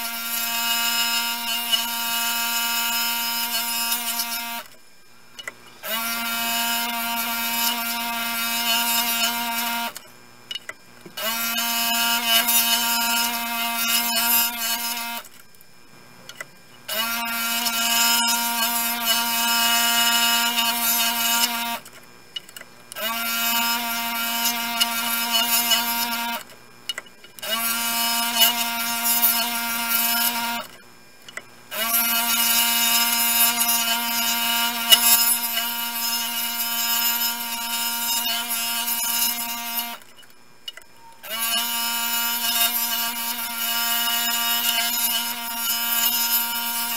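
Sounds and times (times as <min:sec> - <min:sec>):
scroll saw cutting wood: 0:00.0 - 0:04.8, 0:05.4 - 0:15.5, 0:16.3 - 0:46.9.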